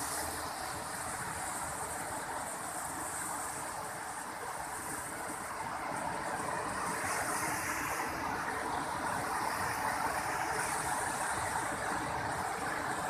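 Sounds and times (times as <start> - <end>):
river rapids roaring: 0.0 - 13.0.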